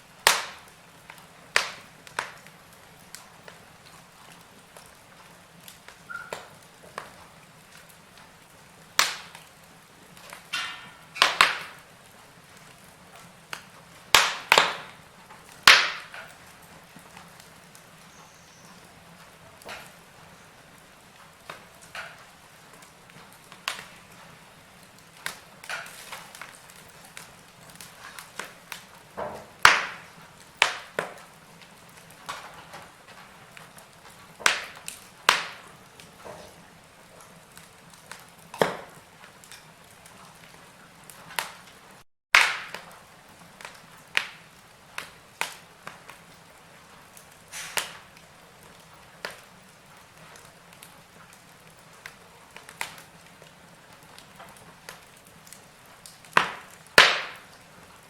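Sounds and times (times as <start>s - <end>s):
fire crackling and popping: 0.0s - 58.0s
fire hissing: 0.0s - 58.0s.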